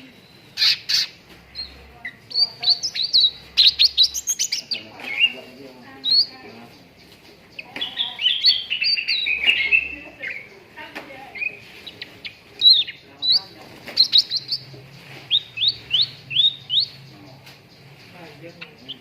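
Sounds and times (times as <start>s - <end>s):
bird chirping and trilling: 0.0s - 19.0s.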